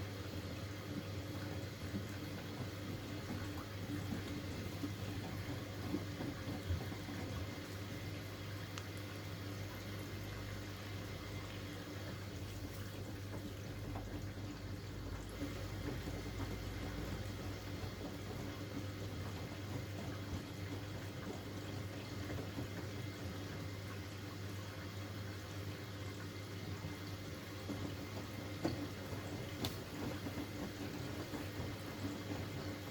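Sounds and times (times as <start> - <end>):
water filling washing machine: 0.0 - 32.9.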